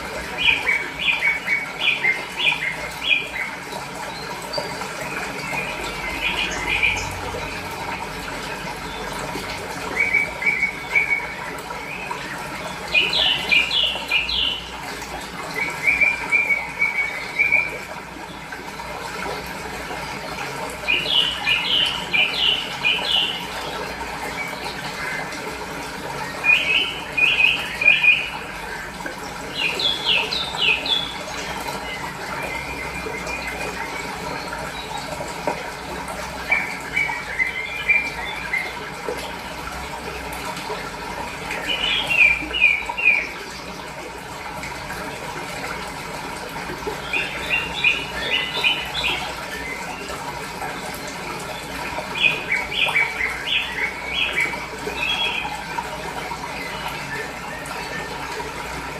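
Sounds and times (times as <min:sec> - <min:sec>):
flowing water rushing: 0:00.0 - 0:58.9.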